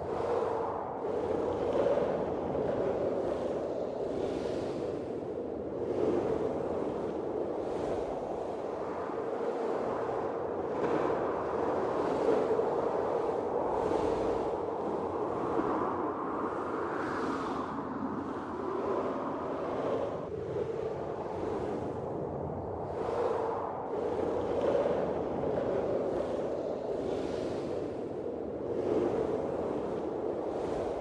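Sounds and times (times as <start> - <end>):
blizzard wind gusting: 0.0 - 31.0.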